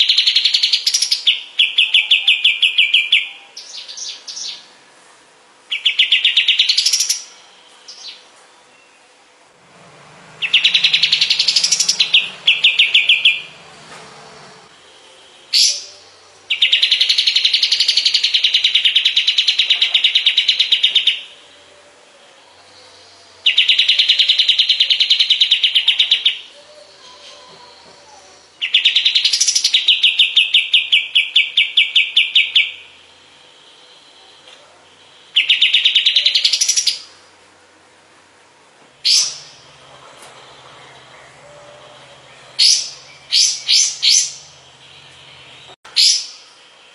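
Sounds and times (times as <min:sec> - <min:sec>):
songbird trilling: 0:00.0 - 0:04.7, 0:05.7 - 0:09.0, 0:10.3 - 0:13.7, 0:15.3 - 0:21.5, 0:22.4 - 0:33.0, 0:33.6 - 0:37.2, 0:39.0 - 0:39.8, 0:40.4 - 0:46.6.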